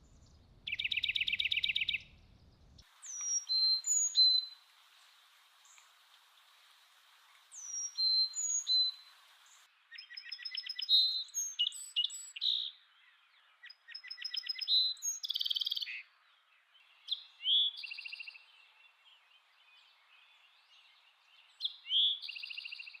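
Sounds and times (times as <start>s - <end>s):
birds chirping and trilling: 0.0s - 6.5s, 7.2s - 23.0s.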